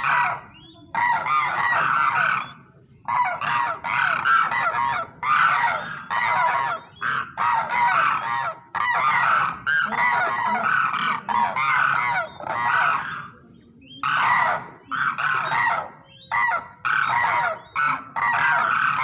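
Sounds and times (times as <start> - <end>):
cranes trumpeting calls: 0.0 - 19.0.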